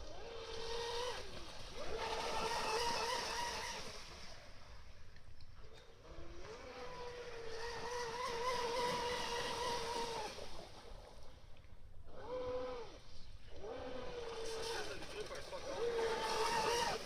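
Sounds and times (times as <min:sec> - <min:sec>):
electric motor whining: 0:00.0 - 0:04.0, 0:06.0 - 0:10.9, 0:12.1 - 0:17.0.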